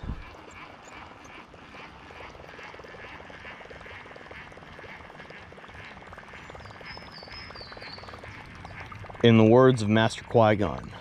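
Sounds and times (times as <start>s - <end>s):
frogs chorus of pulsing calls: 0.1s - 10.9s.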